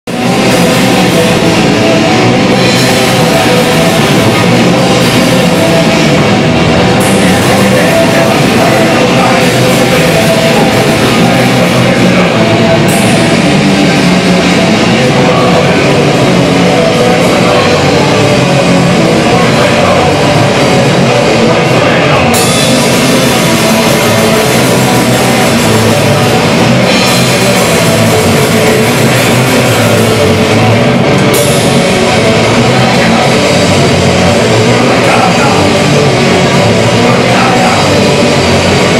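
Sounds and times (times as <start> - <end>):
electric guitar: 0.0 - 38.9
punk rock band playing live: 0.0 - 38.9
drum kit with cymbals: 0.1 - 38.9.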